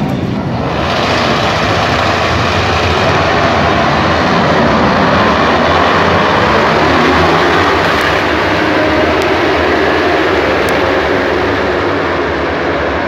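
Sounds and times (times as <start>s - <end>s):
racing motorcycles accelerating: 0.0s - 13.0s.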